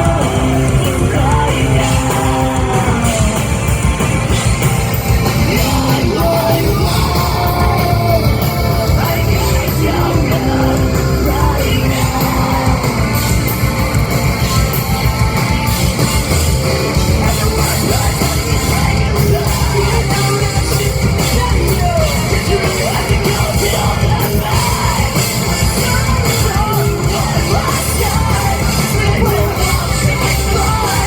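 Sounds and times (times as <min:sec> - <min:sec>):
person singing: 0:00.0 - 0:03.7, 0:05.3 - 0:13.5, 0:17.1 - 0:31.0
rock band playing heavy music: 0:00.0 - 0:31.0.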